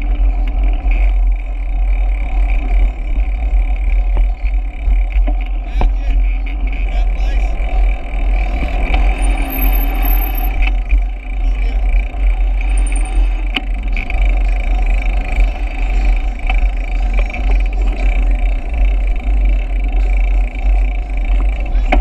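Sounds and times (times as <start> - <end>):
road rumble: 0.0 - 22.0.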